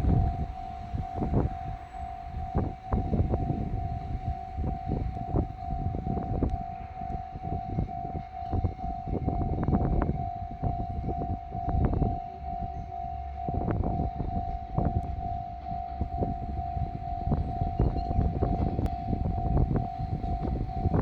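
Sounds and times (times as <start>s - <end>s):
diesel train rumbling: 0.0s - 21.0s
level crossing warning bell: 0.0s - 21.0s.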